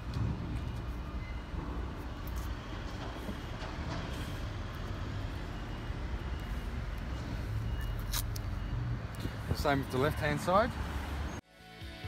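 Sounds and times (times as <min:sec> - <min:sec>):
low rumble of vehicle noise: 0:00.0 - 0:11.4.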